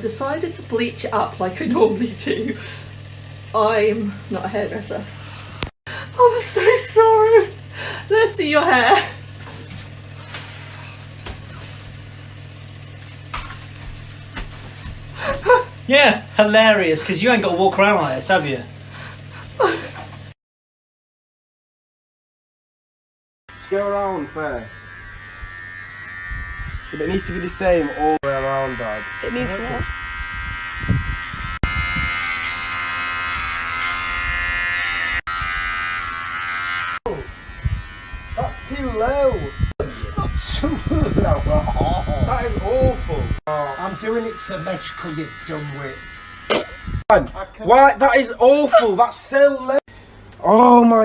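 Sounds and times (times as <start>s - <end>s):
electric hair clippers buzzing: 0.0s - 20.4s, 23.5s - 50.5s.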